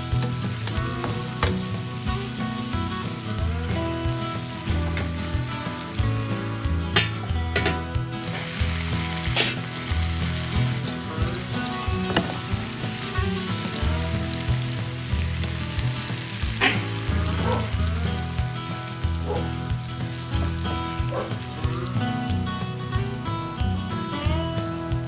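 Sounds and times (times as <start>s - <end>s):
steak sizzling in a pan: 0.0s - 24.1s
background music with bass line: 0.0s - 25.0s.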